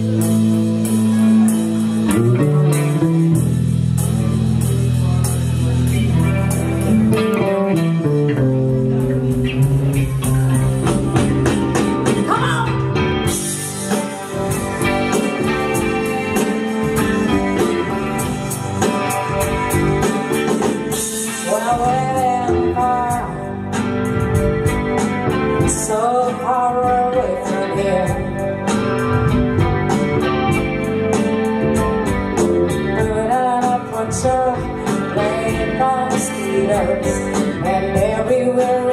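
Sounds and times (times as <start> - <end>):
electric guitar: 0.0 - 38.9
live band playing: 0.0 - 38.9.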